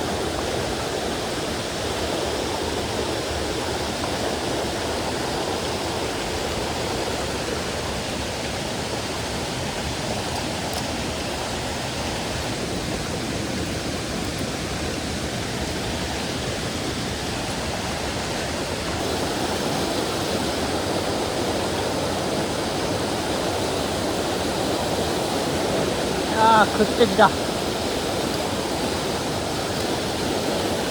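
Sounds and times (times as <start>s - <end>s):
mountain stream rushing: 0.0s - 30.9s.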